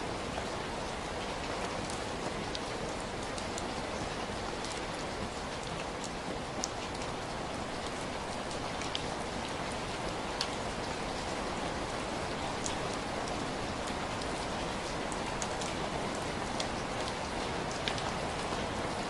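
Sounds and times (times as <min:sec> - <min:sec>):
raindrops hitting a surface: 0:00.0 - 0:19.0.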